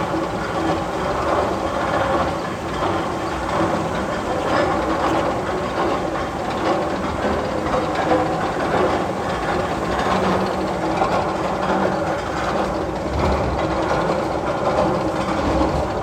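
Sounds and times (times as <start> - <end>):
roller coaster rumbling and clatter: 0.0 - 16.0.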